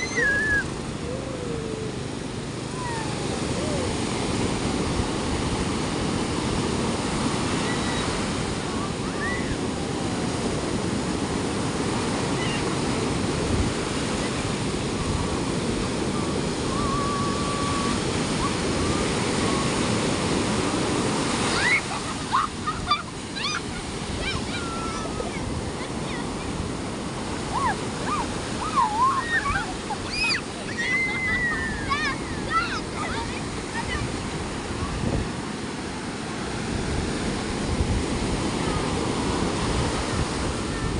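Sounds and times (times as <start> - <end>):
ocean surf washing on beach: 0.0 - 40.9.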